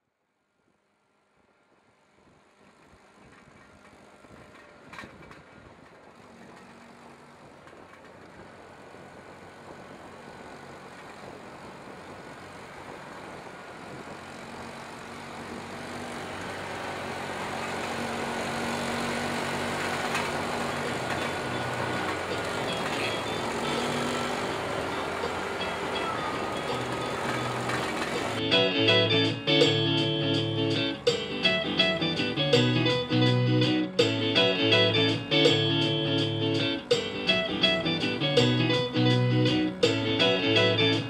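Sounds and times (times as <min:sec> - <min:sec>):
traffic rumble: 0:01.0 - 0:41.0.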